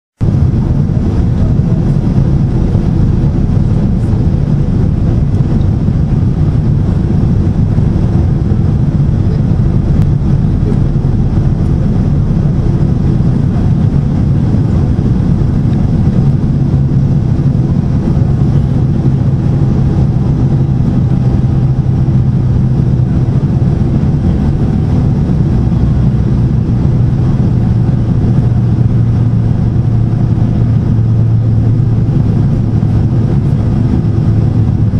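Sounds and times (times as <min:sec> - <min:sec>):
airliner cabin engine rush: 0:00.2 - 0:34.9
low hum: 0:00.2 - 0:34.9.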